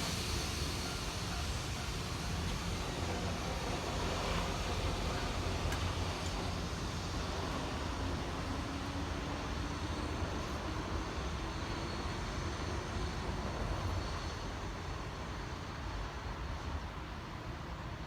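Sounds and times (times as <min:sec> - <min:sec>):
electric train passing: 0:00.0 - 0:17.9.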